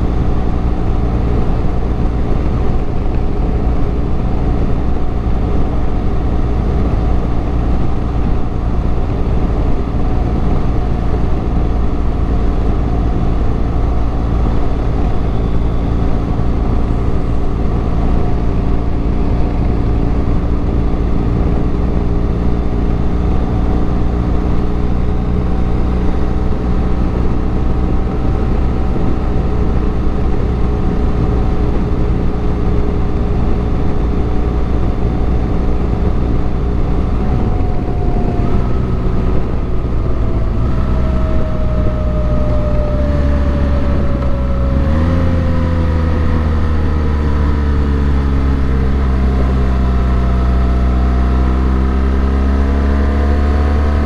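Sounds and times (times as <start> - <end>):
wind rush: 0.0 - 49.7
motorcycle engine running: 0.0 - 54.0.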